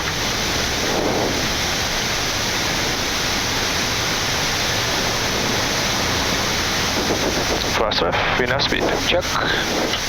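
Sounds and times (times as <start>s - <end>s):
airplane cockpit rushing noise: 0.0s - 10.0s.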